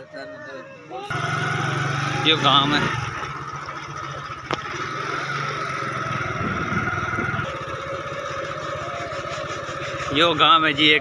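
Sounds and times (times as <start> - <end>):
motorcycle engine running: 1.1 - 11.0.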